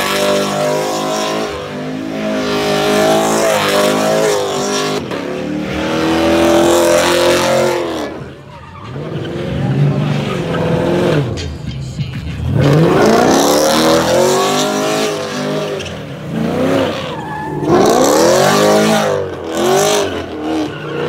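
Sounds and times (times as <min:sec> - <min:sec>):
car engine revving hard: 0:00.0 - 0:11.4, 0:12.5 - 0:21.0
tires squealing and skidding: 0:00.0 - 0:11.5, 0:12.3 - 0:21.0.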